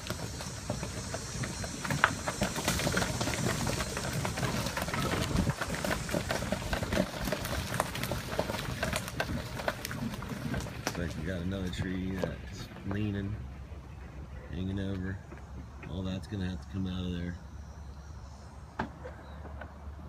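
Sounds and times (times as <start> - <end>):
golf cart rumble: 0.0 - 20.0.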